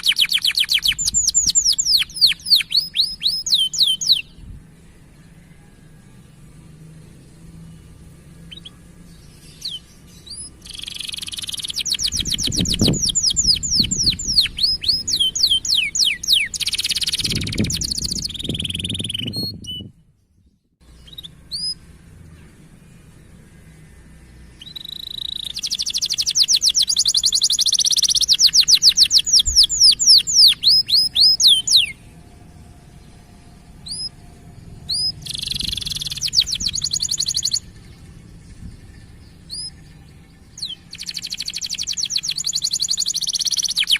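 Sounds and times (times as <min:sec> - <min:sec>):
canary singing trills: 0:00.0 - 0:05.7, 0:06.4 - 0:20.0, 0:20.8 - 0:43.9.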